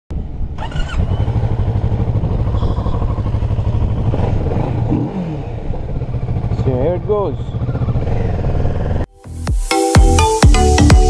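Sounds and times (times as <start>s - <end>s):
motorcycle engine running: 0.1s - 9.1s.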